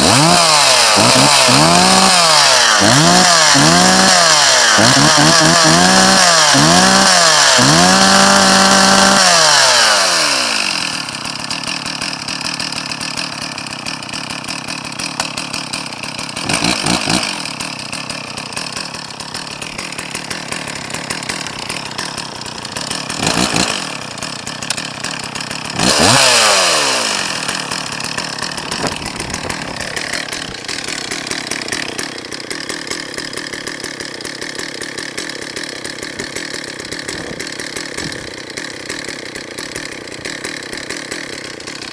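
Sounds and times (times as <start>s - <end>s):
chainsaw idling: 0.0s - 41.9s
chainsaw throttle blips: 0.0s - 41.9s.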